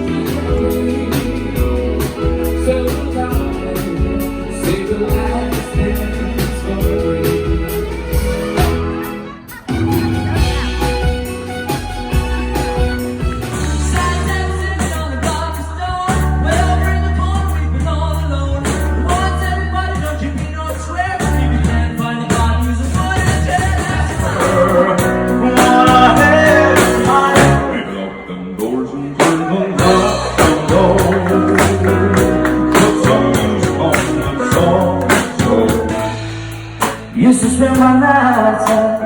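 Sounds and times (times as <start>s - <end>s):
song with singing and beat: 0.0s - 39.0s.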